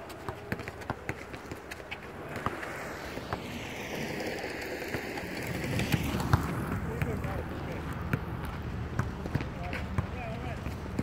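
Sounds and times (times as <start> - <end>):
inline skate wheels rolling: 0.0 - 9.4.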